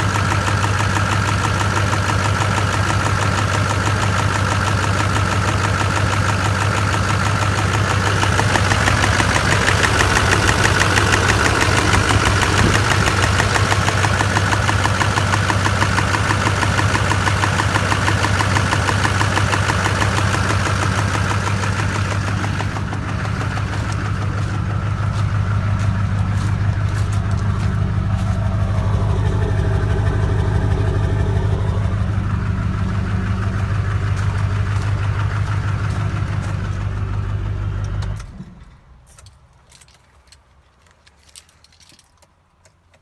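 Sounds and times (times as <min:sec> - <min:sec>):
diesel engine idling: 0:00.0 - 0:39.1.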